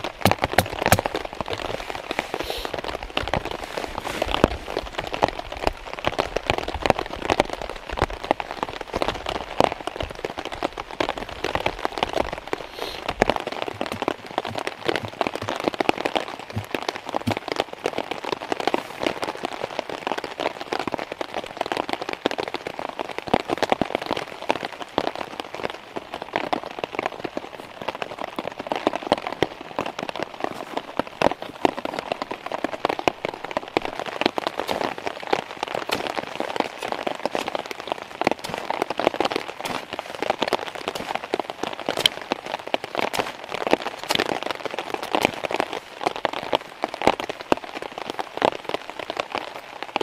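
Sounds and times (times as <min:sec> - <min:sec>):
heavy rain on a tarp: 0:00.0 - 0:50.0.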